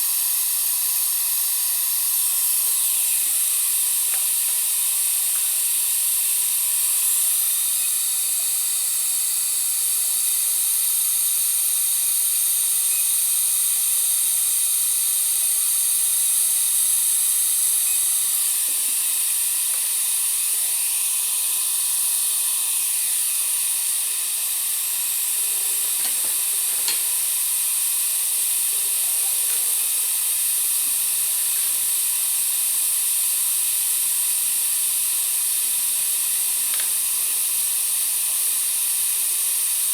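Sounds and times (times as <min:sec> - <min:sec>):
dental equipment hissing and whining: 0:00.0 - 0:39.9.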